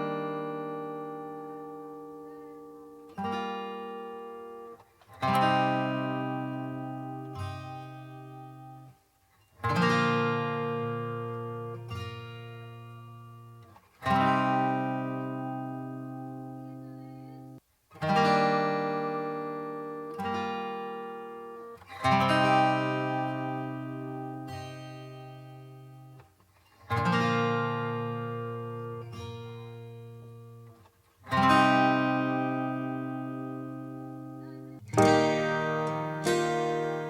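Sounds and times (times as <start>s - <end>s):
acoustic guitar chords: 0.0s - 37.0s.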